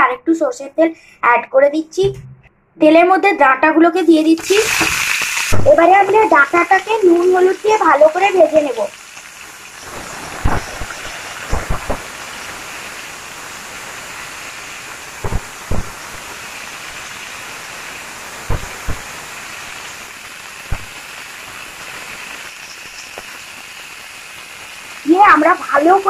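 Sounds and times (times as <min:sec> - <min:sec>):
oil sizzling in a wok: 0:04.2 - 0:26.0.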